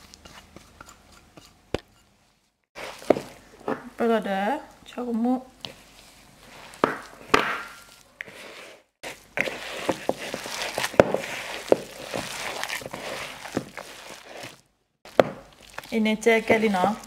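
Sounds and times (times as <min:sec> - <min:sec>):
hand kneading dough mixture: 0:00.0 - 0:17.0.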